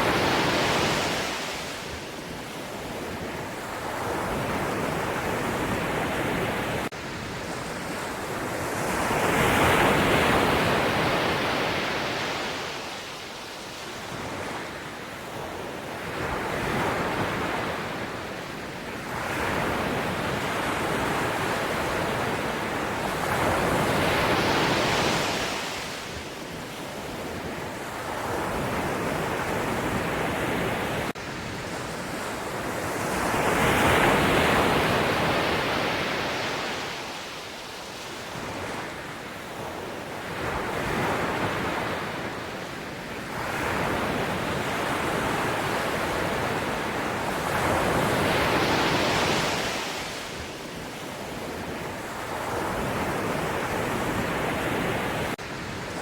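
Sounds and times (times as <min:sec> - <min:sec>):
sea waves breaking ashore: 0:00.0 - 0:18.2, 0:19.1 - 0:42.6, 0:43.2 - 0:56.0.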